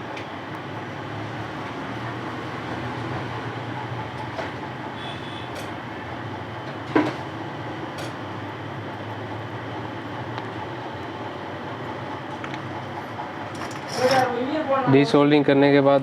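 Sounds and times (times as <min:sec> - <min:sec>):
bench equipment whirring hum: 0:00.0 - 0:16.0.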